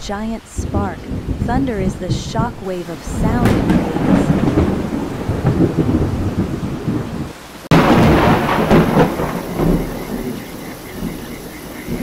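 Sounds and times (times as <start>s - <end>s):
rain: 0.0s - 12.0s
thunder rumbling: 0.0s - 12.0s.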